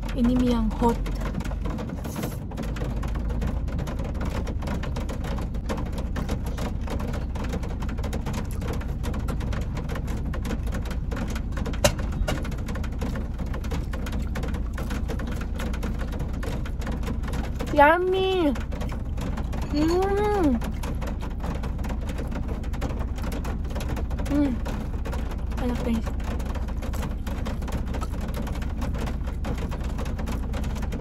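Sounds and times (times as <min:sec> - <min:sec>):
rain pattering on car roof: 0:00.0 - 0:31.0.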